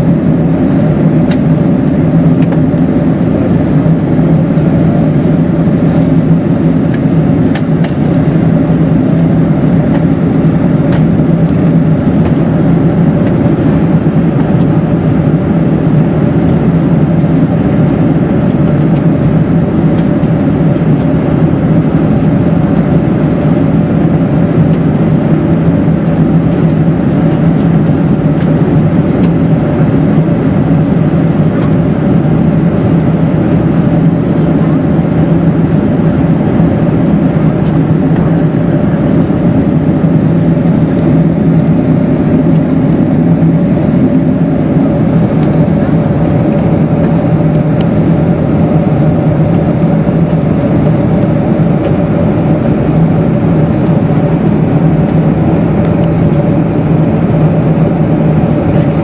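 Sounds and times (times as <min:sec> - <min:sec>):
jet engine drone in cabin: 0:00.0 - 0:59.0
low steady hum: 0:00.0 - 0:59.0.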